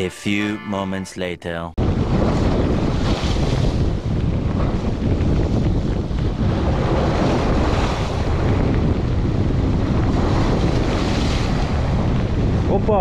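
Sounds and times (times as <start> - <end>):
wind buffeting microphone: 1.8 - 13.0.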